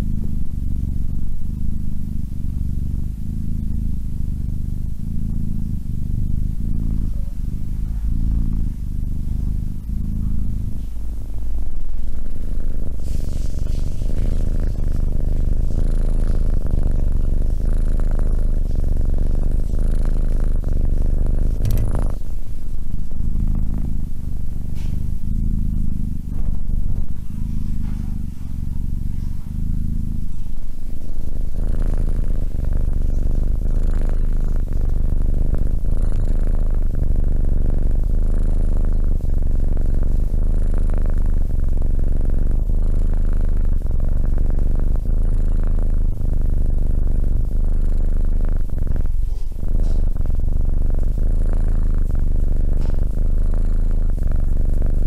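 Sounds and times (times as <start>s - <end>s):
kitten purring: 0.0s - 55.0s.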